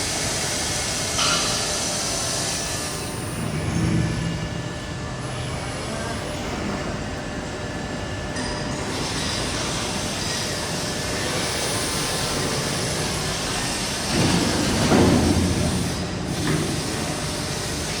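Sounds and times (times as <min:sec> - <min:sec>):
laser cutting machine hissing: 0:00.0 - 0:18.0.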